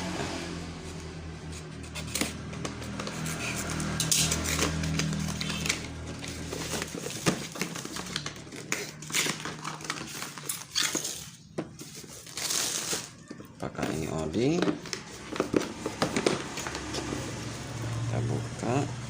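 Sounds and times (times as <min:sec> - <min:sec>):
plastic packaging handled: 0:01.5 - 0:17.9.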